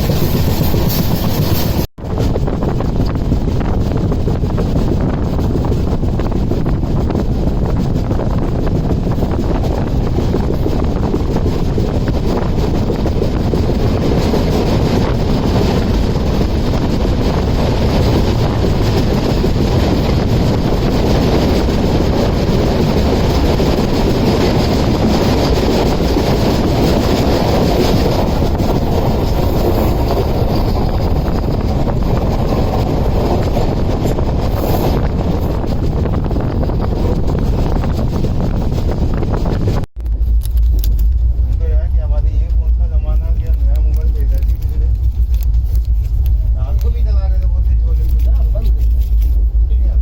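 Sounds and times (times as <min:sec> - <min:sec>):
train wheels on track: 0:00.0 - 0:50.0
wind buffeting microphone: 0:00.0 - 0:50.0.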